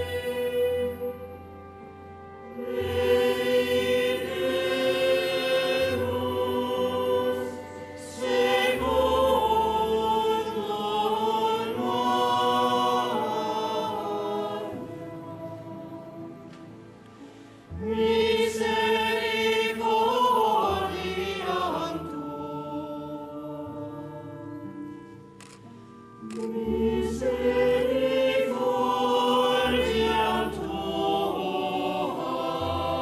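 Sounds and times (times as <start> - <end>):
choir singing in cathedral: 0.0 - 33.0.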